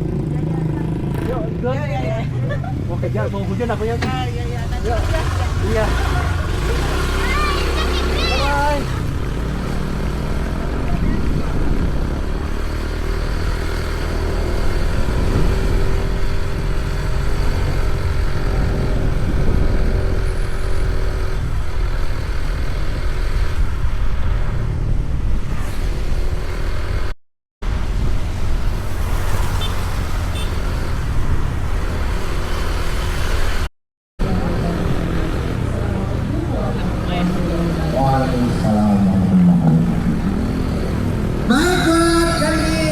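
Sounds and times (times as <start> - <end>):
vehicle engine and road rumble: 0.0 - 42.9.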